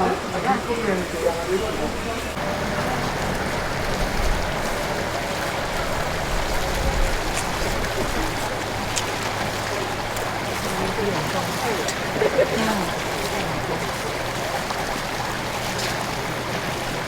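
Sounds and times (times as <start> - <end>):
water rushing and cascading: 0.0 - 17.0.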